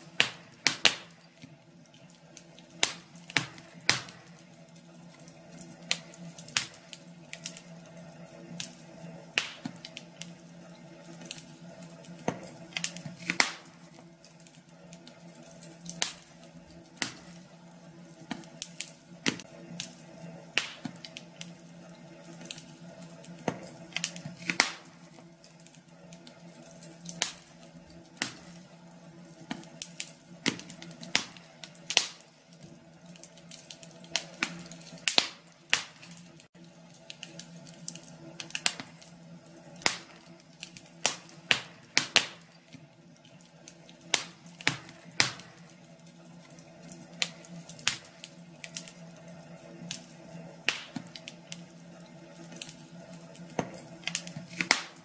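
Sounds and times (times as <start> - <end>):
faint steady hiss: 0.0 - 55.0
wood fire crackling and popping: 0.0 - 55.0.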